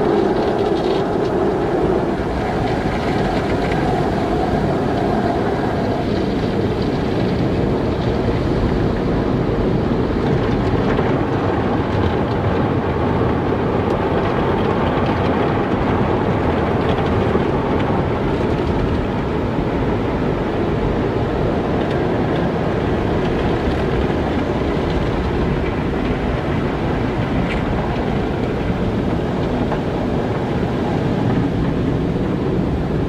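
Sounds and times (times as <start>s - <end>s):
car wash water and machinery: 0.0s - 33.0s.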